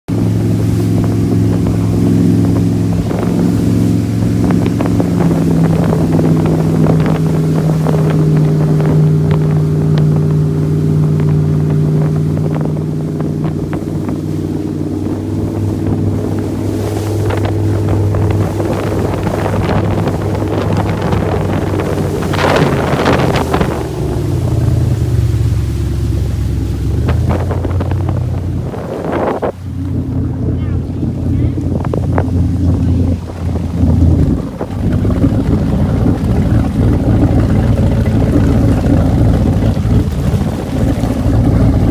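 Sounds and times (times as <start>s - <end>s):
speedboat engine humming: 0.0s - 41.9s
wind noise on microphone: 0.1s - 41.9s.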